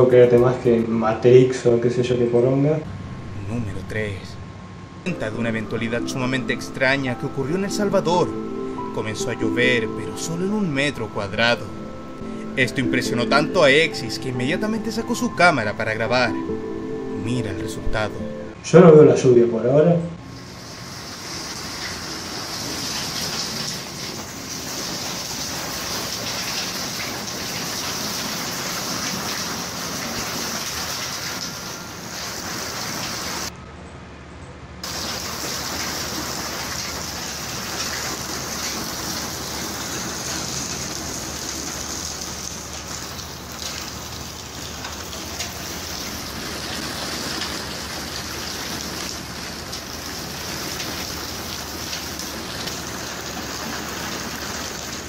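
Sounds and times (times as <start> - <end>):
rain falling: 5.1 - 16.7, 20.2 - 33.5, 34.8 - 55.0.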